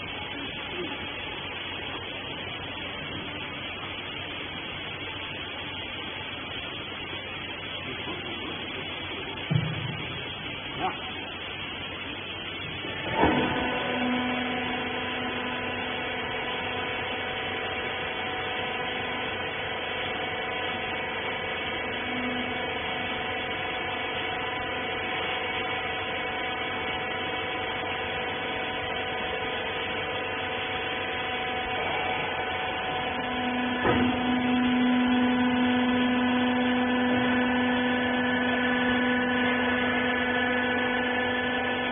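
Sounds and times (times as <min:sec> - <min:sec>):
motor and hydraulic pump humming: 0:00.0 - 0:41.9.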